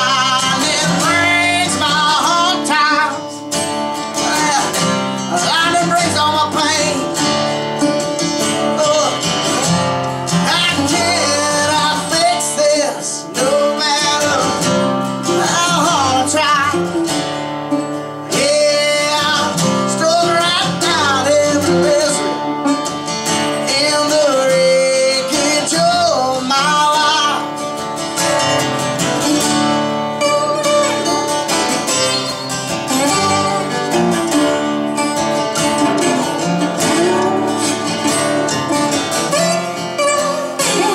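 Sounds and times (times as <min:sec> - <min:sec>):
gliding lead guitar line: 0:00.0 - 0:40.9
resonator guitar lead: 0:00.0 - 0:40.9
strummed acoustic guitars: 0:00.0 - 0:40.9.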